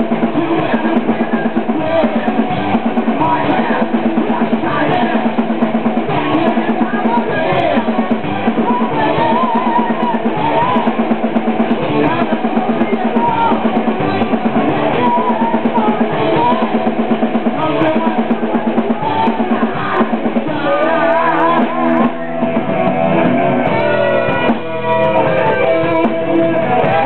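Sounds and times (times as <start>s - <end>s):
heavy metal band playing: 0.0s - 27.0s.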